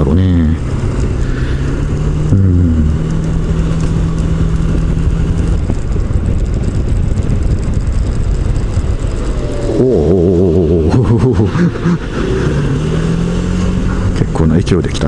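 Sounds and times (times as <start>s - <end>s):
scooter engine running: 0.0s - 14.5s
wind on microphone: 1.1s - 14.2s.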